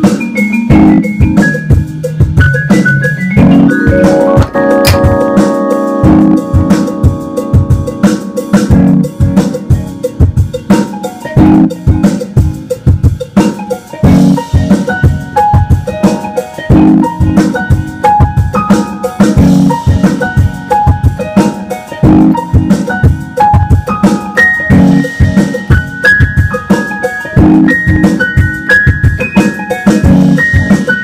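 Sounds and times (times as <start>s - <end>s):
drum kit beat: 0.0s - 31.0s
electric keyboard notes: 0.0s - 31.0s.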